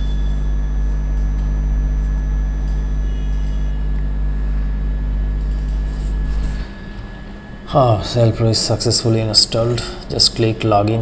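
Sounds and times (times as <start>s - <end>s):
faint steady whines: 0.0s - 11.0s
low background hum: 0.0s - 11.0s.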